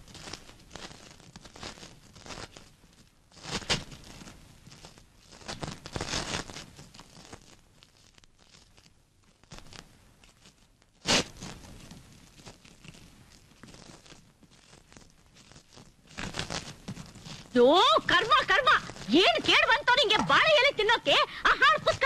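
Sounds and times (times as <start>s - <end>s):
leaf rustling: 0.0s - 22.0s
leaf tearing: 0.0s - 22.0s.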